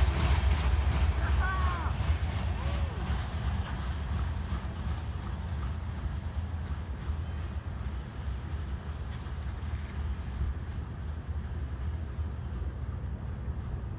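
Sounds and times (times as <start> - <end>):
freight train rumbling past: 0.0 - 13.9.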